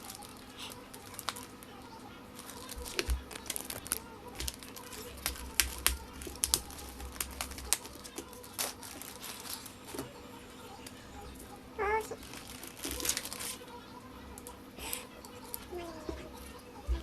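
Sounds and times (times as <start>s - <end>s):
packaging clicks and crinkling: 0.0s - 13.7s.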